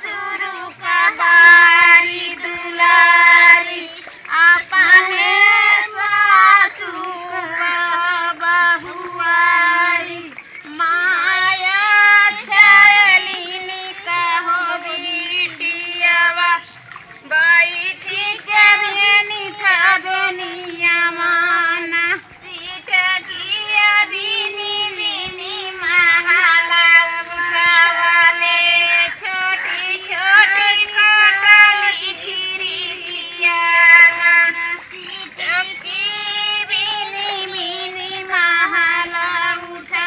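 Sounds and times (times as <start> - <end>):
women singing folk song: 0.0 - 40.0.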